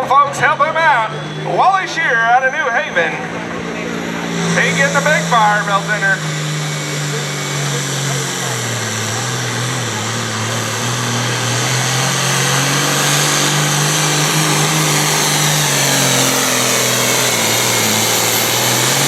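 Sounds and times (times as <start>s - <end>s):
tractor diesel engine at full throttle: 0.0s - 19.0s.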